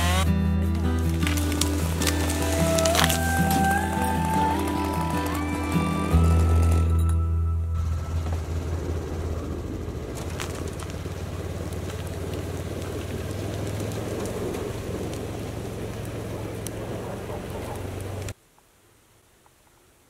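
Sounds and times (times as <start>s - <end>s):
small engine idling: 0.0s - 18.3s.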